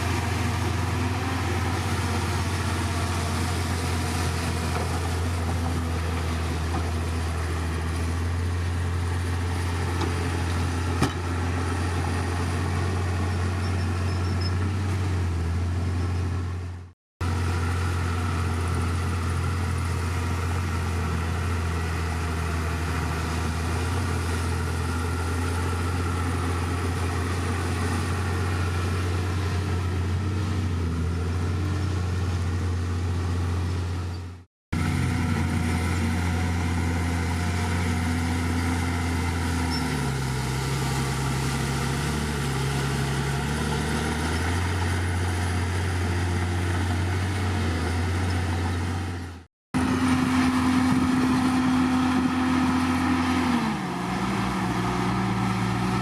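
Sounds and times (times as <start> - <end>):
heavy diesel engine under load: 0.0 - 56.0.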